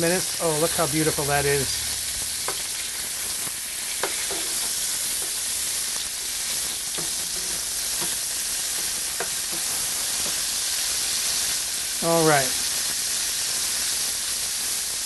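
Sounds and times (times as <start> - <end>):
steaks sizzling in a skillet: 0.0 - 15.0.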